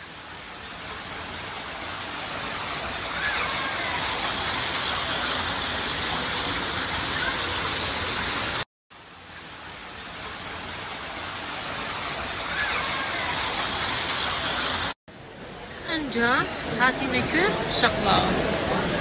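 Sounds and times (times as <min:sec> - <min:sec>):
falling water hiss: 0:00.0 - 0:19.0.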